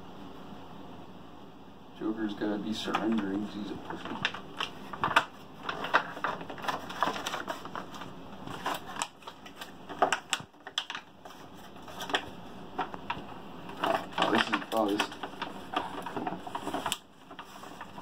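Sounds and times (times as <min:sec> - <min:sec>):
plastic packaging crinkling: 0:02.8 - 0:18.0.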